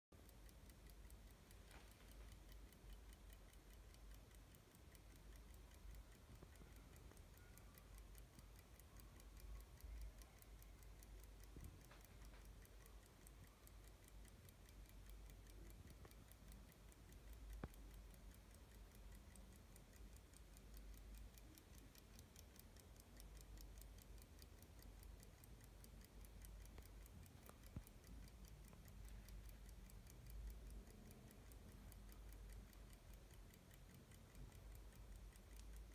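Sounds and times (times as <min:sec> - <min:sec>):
clock ticking: 0:00.1 - 0:35.9.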